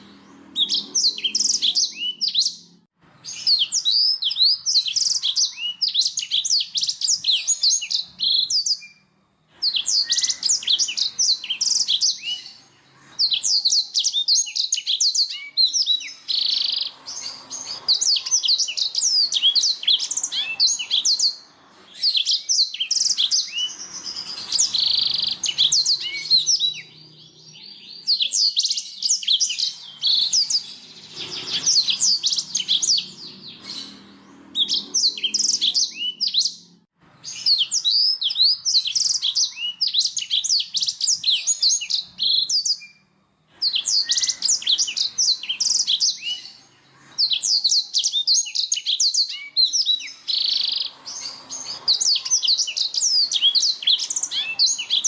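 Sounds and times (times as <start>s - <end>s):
canary singing: 0.0s - 55.0s.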